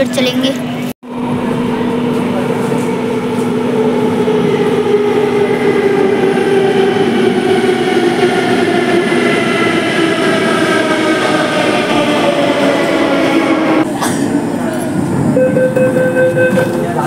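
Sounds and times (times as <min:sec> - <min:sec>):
train rumbling into station: 0:00.0 - 0:17.0.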